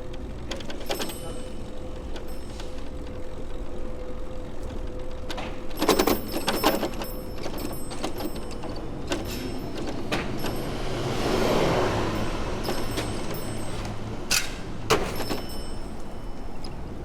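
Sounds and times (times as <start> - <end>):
bicycle road rumble: 0.0 - 17.0.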